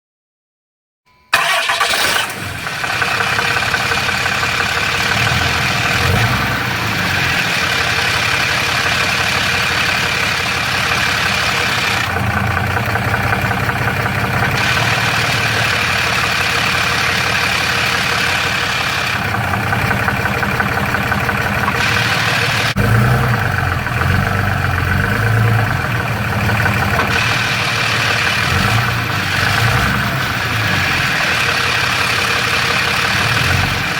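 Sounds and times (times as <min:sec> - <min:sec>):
diesel engine running: 0:01.3 - 0:33.9.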